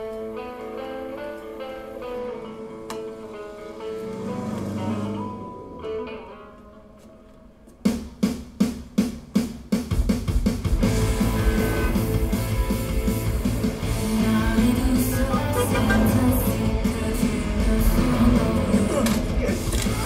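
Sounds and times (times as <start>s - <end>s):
film music with deep bass: 0.4s - 7.6s, 10.7s - 20.0s.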